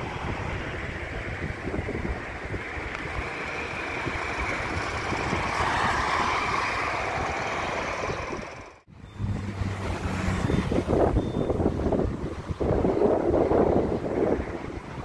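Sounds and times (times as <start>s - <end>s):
rushing road traffic: 0.0s - 15.0s
vehicle passing: 0.0s - 15.0s
wind buffeting microphone: 0.0s - 15.0s.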